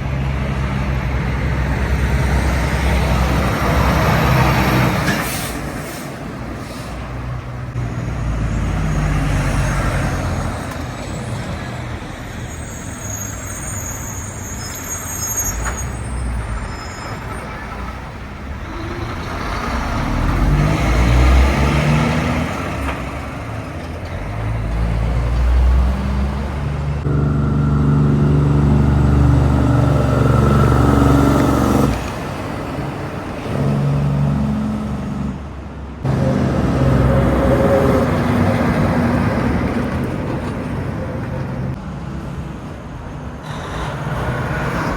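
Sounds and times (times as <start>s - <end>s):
trucks and traffic passing: 0.0s - 44.9s.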